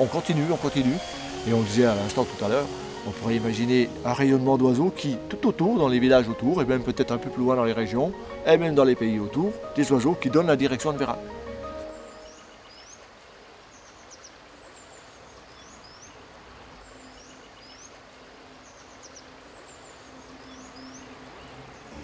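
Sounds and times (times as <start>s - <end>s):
river flowing: 0.0s - 6.3s, 7.4s - 22.0s
songbird chirping and trilling: 0.0s - 22.0s.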